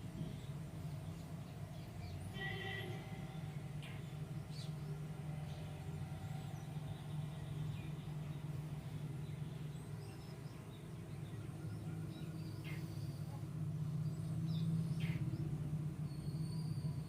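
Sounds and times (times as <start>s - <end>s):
small birds chirping faintly: 0.0s - 17.0s
steady low hum: 0.0s - 17.0s.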